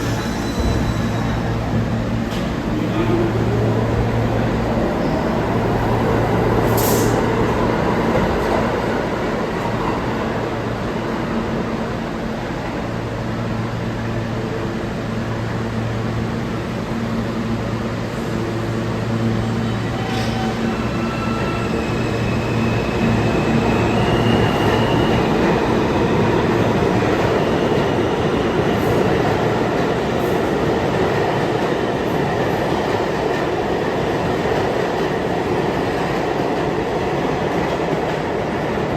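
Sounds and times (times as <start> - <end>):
subway train wheels rumbling: 0.0 - 38.9.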